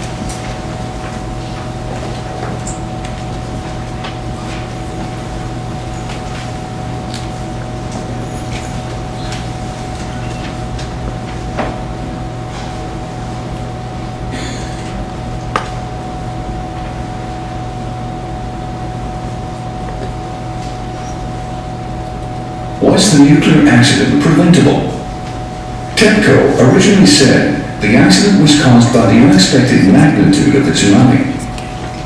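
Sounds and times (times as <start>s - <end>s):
electrical hum and hiss: 0.0s - 32.0s.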